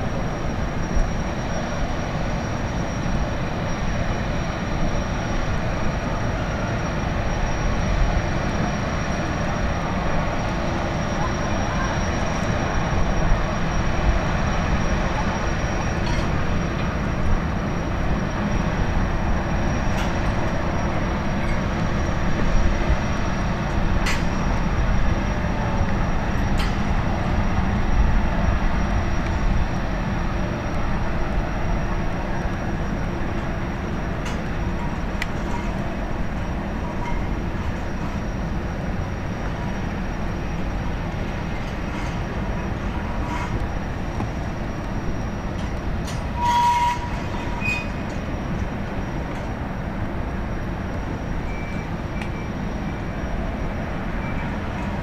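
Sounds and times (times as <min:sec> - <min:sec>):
engine and water jets rumbling: 0:00.0 - 0:55.0
thin high whine: 0:00.0 - 0:55.0.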